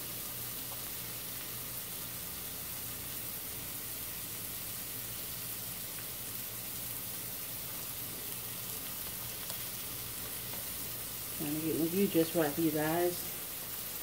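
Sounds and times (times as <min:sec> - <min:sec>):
onions sizzling in a skillet: 0:00.0 - 0:14.0.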